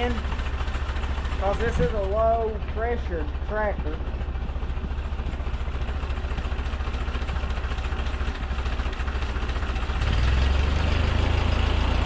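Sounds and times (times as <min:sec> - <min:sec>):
tractor engine idling and revving: 0:00.0 - 0:12.0.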